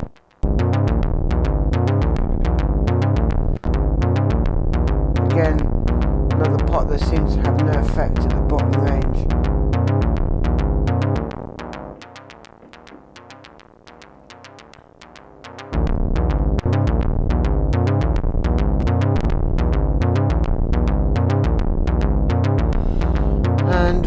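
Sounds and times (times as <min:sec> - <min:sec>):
synthesizer pulsed note pattern: 0:00.0 - 0:24.0.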